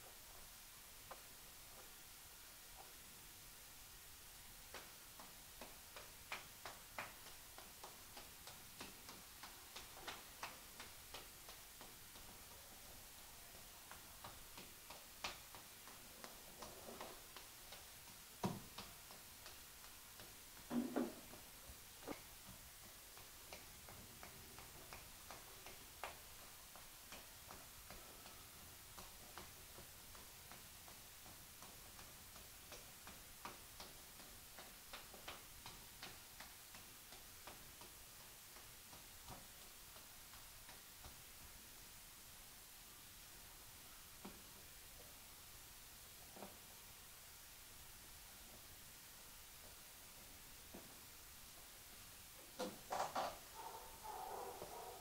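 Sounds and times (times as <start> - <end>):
low hiss: 0.0 - 55.0.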